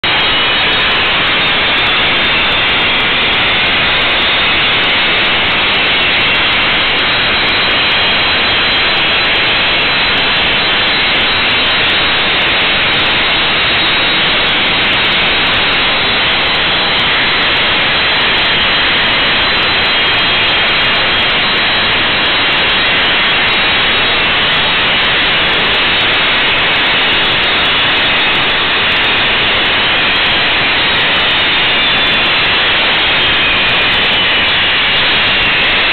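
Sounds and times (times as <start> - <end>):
faint high whine: 0.0 - 35.9
jet engines idling: 0.0 - 35.9.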